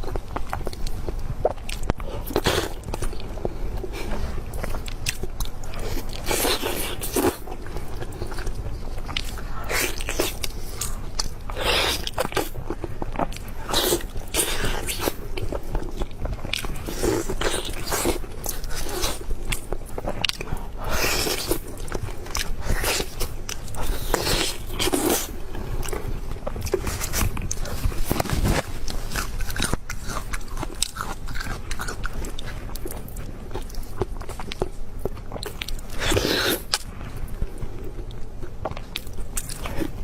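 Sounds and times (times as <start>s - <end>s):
person biting and chewing food: 0.0s - 36.9s.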